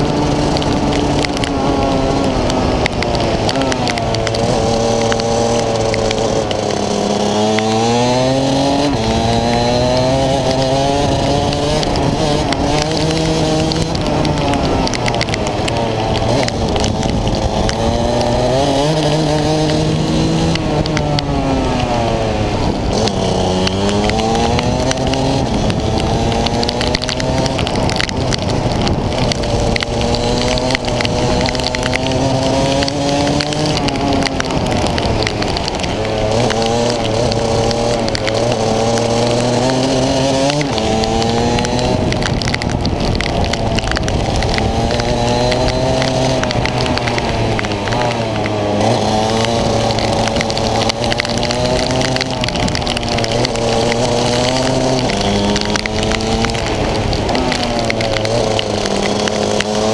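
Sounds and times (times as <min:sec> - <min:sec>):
kart engine racing: 0:00.0 - 0:59.9
rain and tyre spray hiss: 0:00.0 - 0:59.9.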